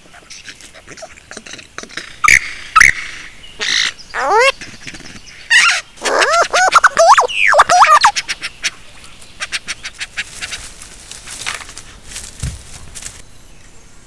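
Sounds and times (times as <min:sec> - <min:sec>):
lyrebird singing: 0:00.0 - 0:14.0.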